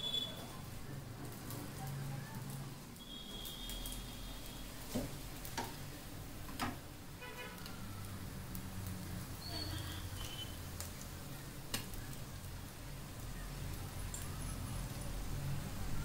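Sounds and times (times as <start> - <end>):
bread sizzling in frying pan: 0.0 - 16.0.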